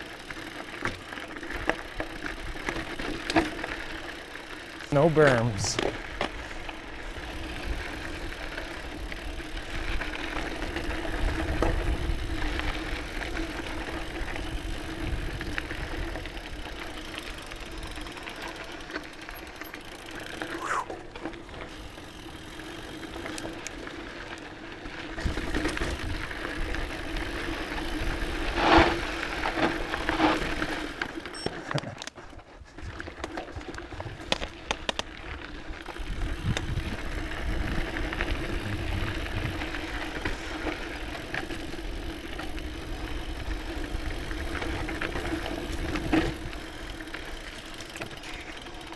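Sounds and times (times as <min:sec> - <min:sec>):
bike chain and frame rattle: 0:00.0 - 0:48.9
bike tyres rolling on dirt: 0:00.0 - 0:48.9.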